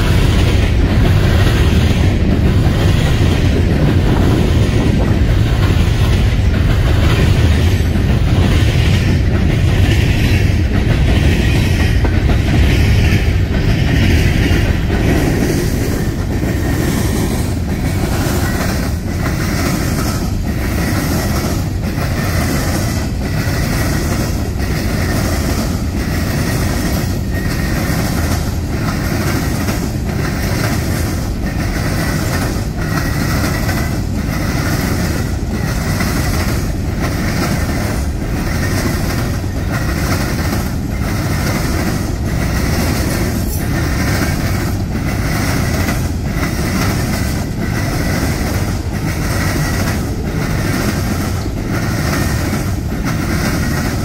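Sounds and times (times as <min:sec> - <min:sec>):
train rumbling: 0:00.0 - 0:54.0
wheels clacking over rail joints: 0:00.0 - 0:54.0.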